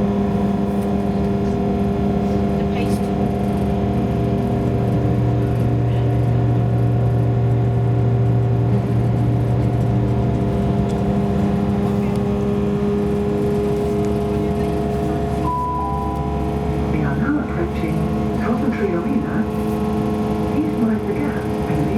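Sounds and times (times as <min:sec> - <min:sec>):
diesel train engine drone: 0:00.0 - 0:21.9.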